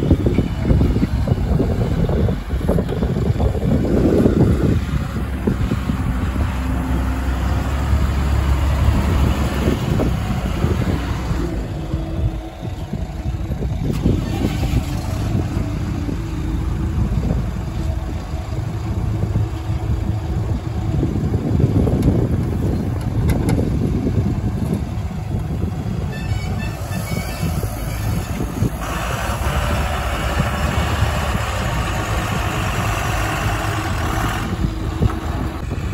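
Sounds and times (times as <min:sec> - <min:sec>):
diesel engines running: 0:00.0 - 0:35.9.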